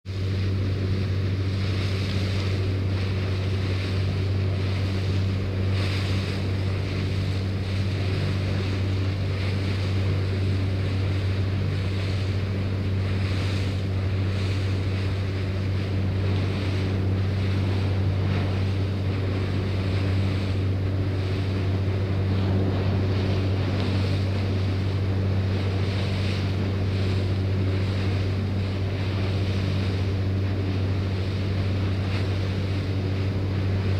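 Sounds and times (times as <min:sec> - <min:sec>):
boat engine droning: 0:00.0 - 0:33.9
water rushing past bow: 0:00.1 - 0:33.9.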